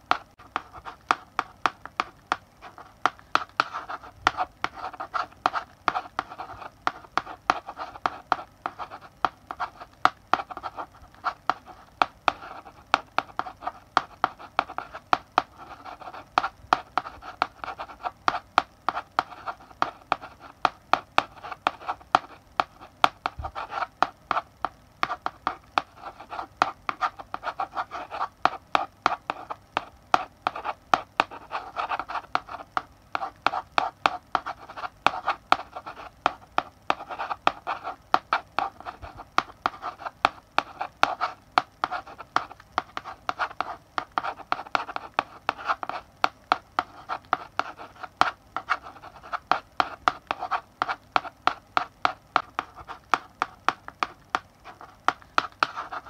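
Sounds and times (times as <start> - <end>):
chalk tapping on board: 0.0 - 56.0
chalk scratching on blackboard: 0.1 - 56.0.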